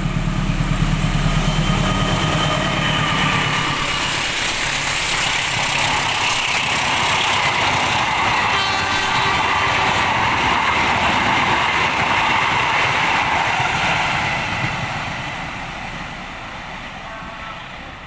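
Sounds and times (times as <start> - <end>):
passenger train rolling past: 0.0 - 18.0.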